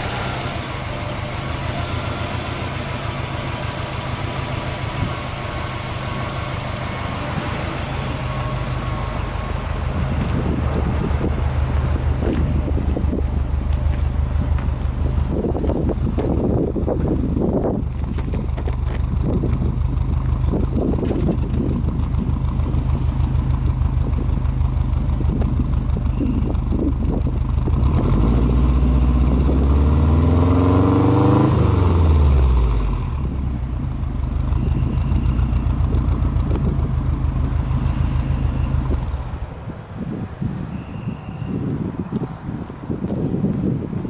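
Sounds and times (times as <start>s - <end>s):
car engine revving: 0.0s - 21.8s, 22.6s - 39.4s
car engine idling: 0.0s - 39.5s.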